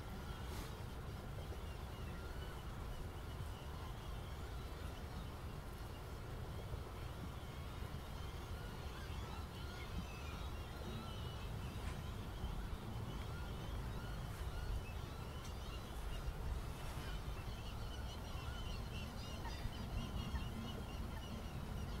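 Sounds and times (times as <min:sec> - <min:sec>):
faint high chirping calls: 0:00.2 - 0:22.0.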